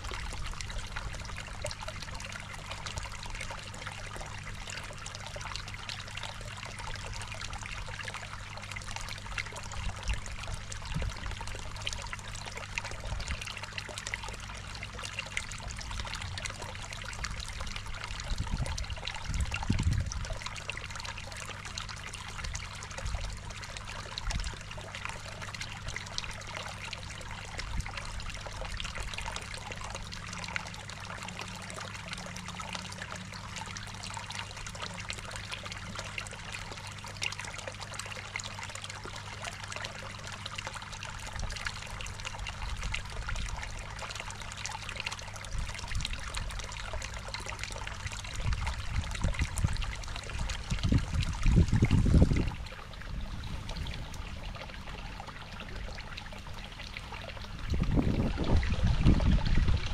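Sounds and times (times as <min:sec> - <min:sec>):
steady low hum: 0:00.0 - 0:59.9
water trickling into pond: 0:00.0 - 0:59.9.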